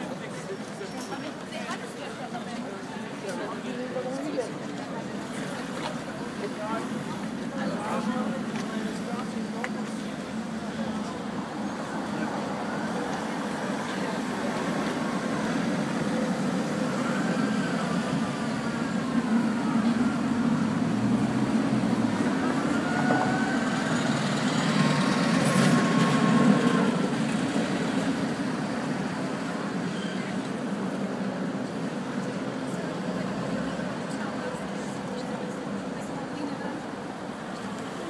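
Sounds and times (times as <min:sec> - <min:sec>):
tram passing with whining motors: 0:04.7 - 0:38.0.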